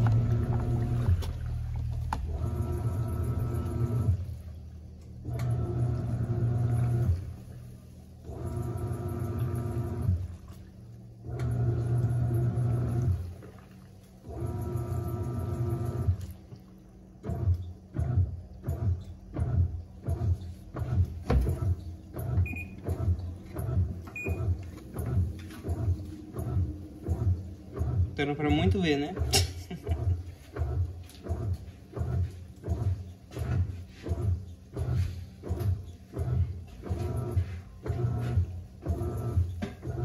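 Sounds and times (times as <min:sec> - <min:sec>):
washing machine motor humming: 0:00.0 - 0:40.0
water sloshing in tub: 0:00.0 - 0:40.0.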